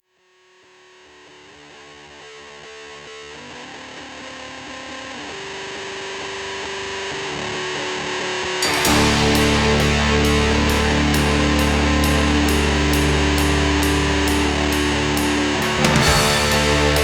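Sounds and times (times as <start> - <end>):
distorted electric guitar: 2.2 - 17.0.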